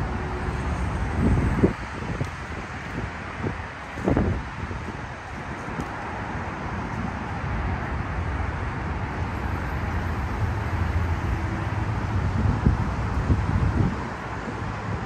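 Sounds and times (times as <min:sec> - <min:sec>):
highway traffic rushing: 0:00.0 - 0:15.0.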